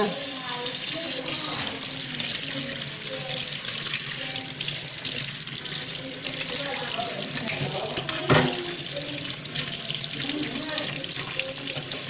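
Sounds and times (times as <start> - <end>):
faucet running into metal sink: 0.0 - 12.0.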